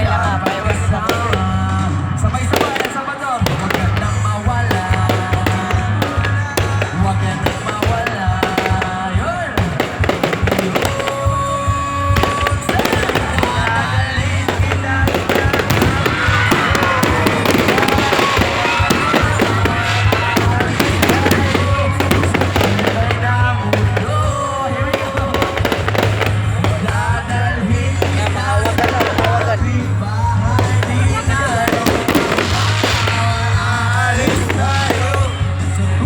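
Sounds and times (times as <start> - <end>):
fireworks crackling and banging: 0.0 - 36.0
music: 0.0 - 36.0
voices: 0.0 - 36.0.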